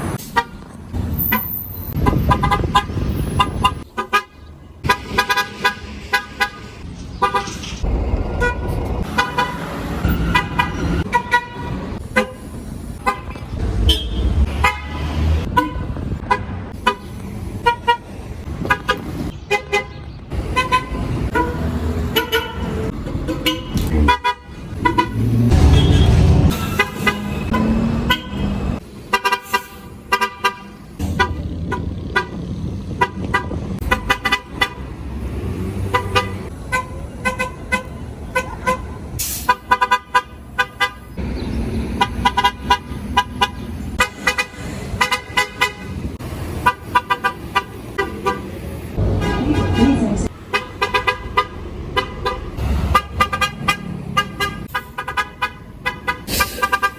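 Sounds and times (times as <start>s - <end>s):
bus engine rumble: 0.0s - 56.9s
traffic rumble: 0.0s - 56.9s.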